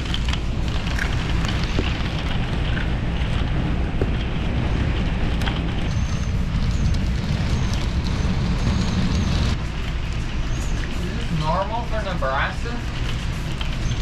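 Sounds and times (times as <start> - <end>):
strong wind gusts: 0.0 - 11.9.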